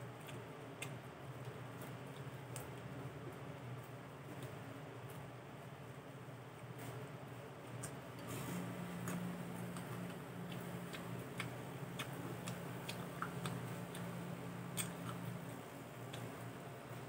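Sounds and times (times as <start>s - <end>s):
crunchy chewing: 0.0s - 5.3s, 7.6s - 17.0s
steady low hum: 0.0s - 17.0s.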